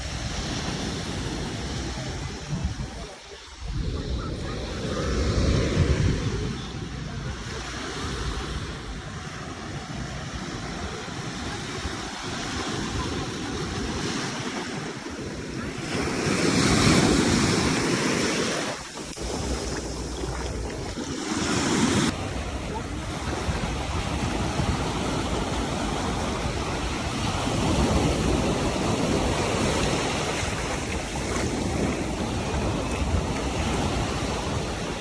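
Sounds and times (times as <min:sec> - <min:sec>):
sea waves washing onto beach: 0:00.0 - 0:35.0
wind buffeting microphone: 0:00.0 - 0:35.0.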